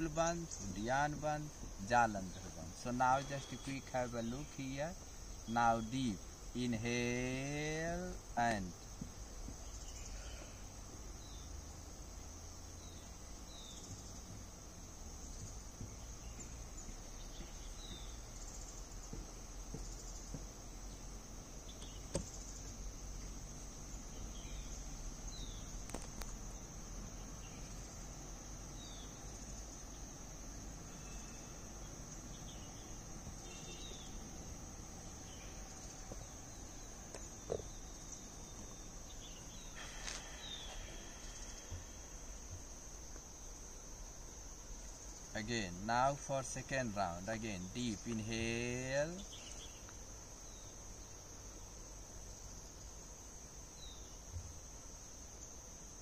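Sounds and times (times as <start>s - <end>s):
high-pitched insect drone: 0.0s - 56.0s
short insect chirps: 0.0s - 56.0s.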